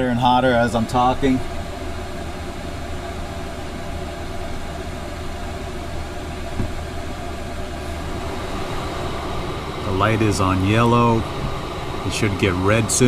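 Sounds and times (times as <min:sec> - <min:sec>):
air heater fan humming: 0:00.0 - 0:13.0.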